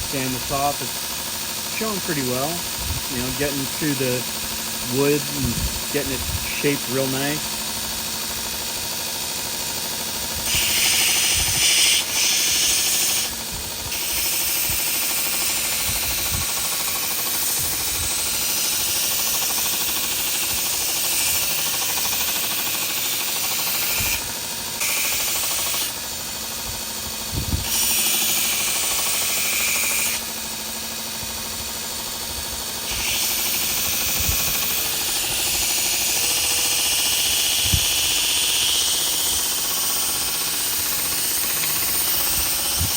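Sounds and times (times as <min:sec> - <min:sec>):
motor humming: 0:00.0 - 0:42.9
belt sanding hiss: 0:01.7 - 0:04.2, 0:04.8 - 0:08.6, 0:09.6 - 0:42.9.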